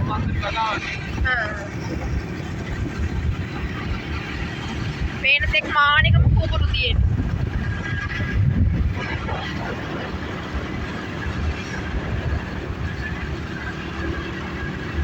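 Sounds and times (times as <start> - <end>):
moving vehicle rumble: 0.0 - 15.0.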